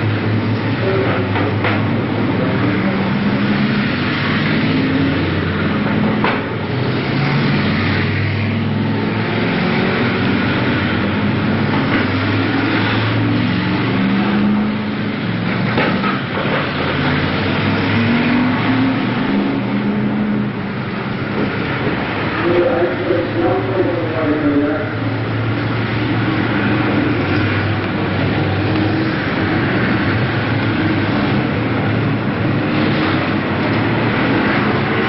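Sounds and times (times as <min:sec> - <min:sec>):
racing car engines passing: 0:00.0 - 0:35.0.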